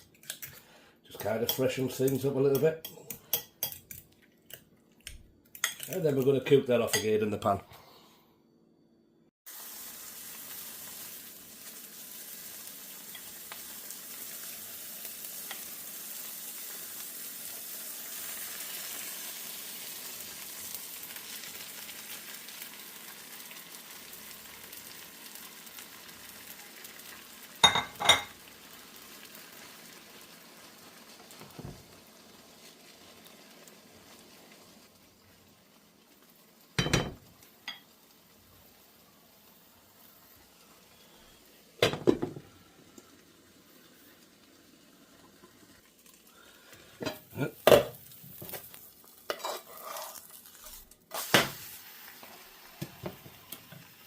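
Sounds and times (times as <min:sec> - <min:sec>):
egg sizzling in frying pan: 0:09.5 - 0:54.0.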